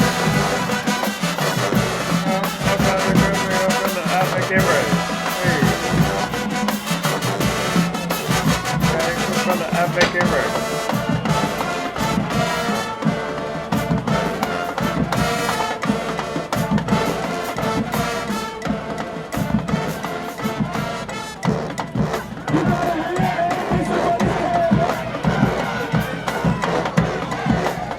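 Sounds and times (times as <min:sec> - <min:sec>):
brass section playing: 0:00.0 - 0:27.9
pounding drumline: 0:00.0 - 0:27.9.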